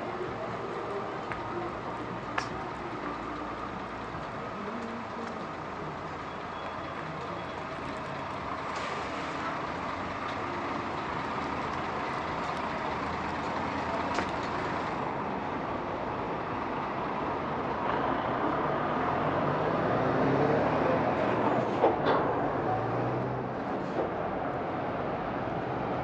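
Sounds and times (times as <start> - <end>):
hum of passing vehicles: 0.0 - 26.0.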